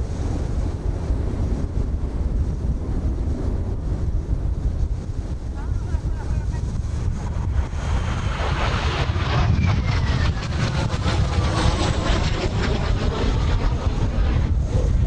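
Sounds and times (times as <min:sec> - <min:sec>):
jet engine whine passing overhead: 0:00.0 - 0:15.0
wind buffeting microphone: 0:00.0 - 0:15.0.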